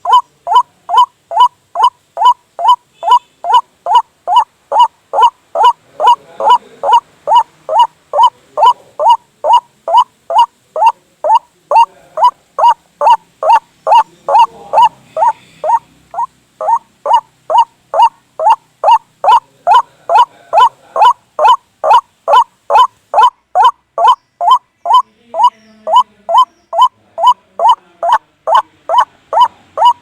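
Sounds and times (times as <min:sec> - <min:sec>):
waterhen harsh rising calls: 0:00.0 - 0:30.0.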